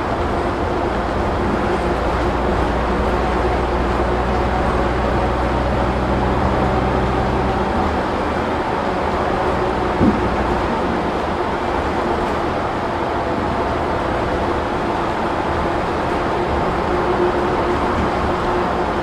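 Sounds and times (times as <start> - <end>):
bus engine and road noise: 0.0 - 19.0.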